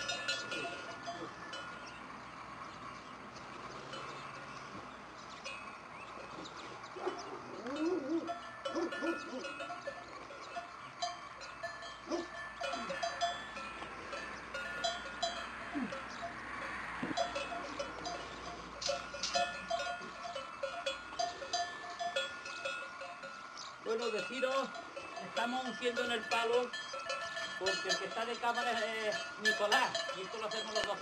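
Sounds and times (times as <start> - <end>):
cattle bell clanking: 0.0 - 31.0.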